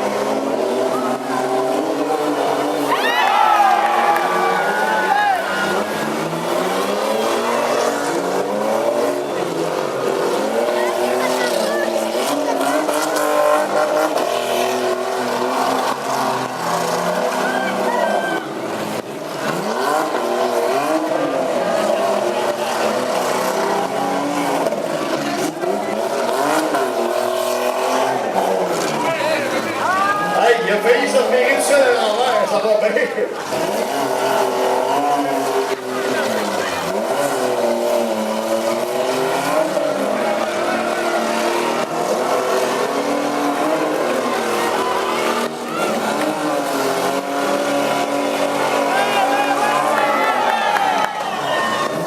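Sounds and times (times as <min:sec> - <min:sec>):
truck engines revving: 0:00.0 - 0:52.0.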